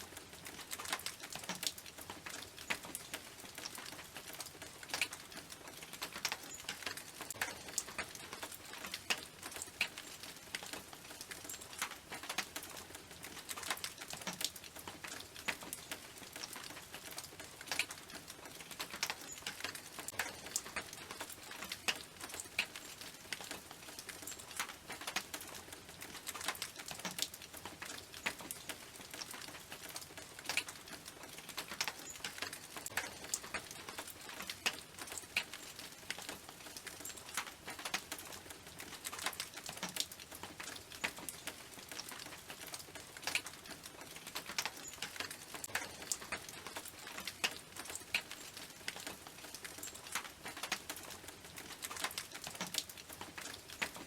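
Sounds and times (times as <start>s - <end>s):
rain dripping on a tin roof: 0.0s - 54.0s.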